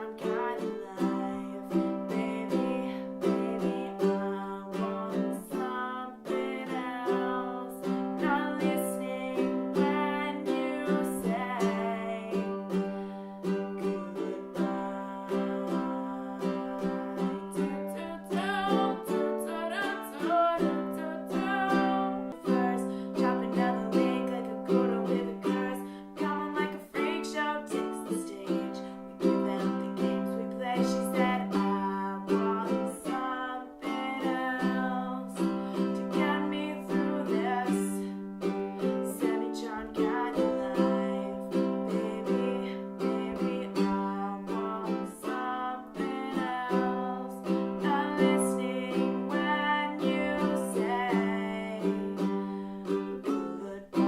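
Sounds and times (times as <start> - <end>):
plucked string instrument notes: 0.0 - 54.0.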